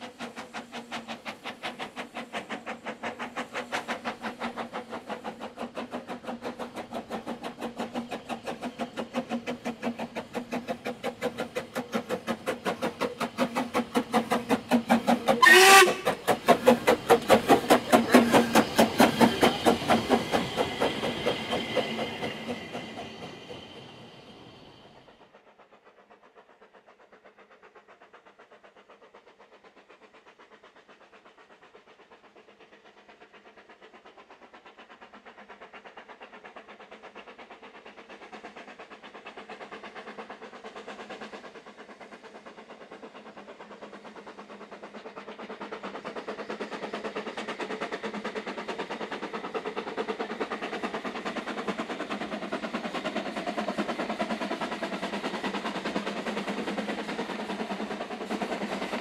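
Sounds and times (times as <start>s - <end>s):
steam locomotive exhaust beats: 0.0s - 59.0s.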